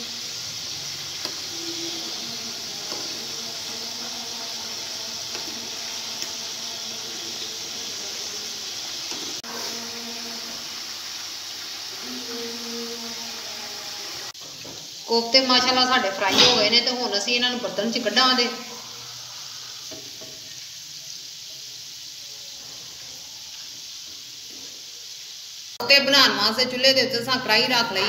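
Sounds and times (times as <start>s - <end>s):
hot oil sizzling: 0.0s - 28.0s.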